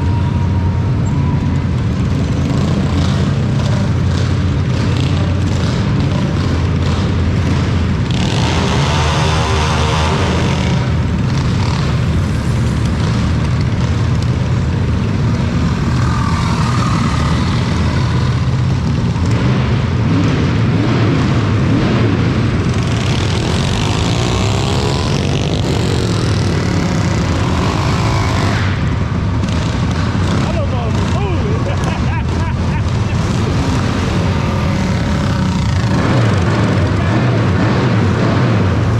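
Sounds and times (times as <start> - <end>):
vehicle engine rumble: 0.0 - 38.9.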